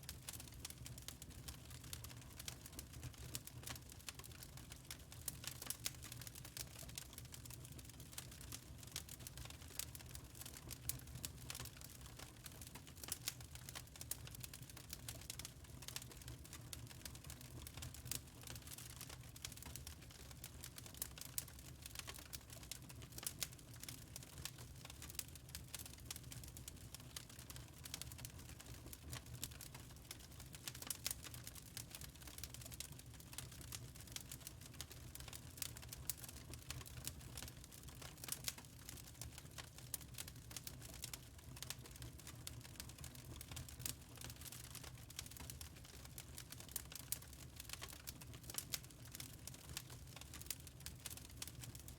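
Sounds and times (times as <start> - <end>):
wood fire crackling: 0.1 - 51.9.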